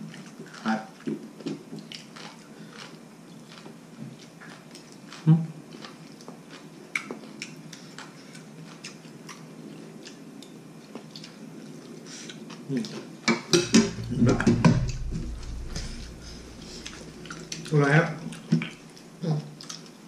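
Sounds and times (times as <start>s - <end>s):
chewing: 0.0s - 13.1s, 16.8s - 20.0s.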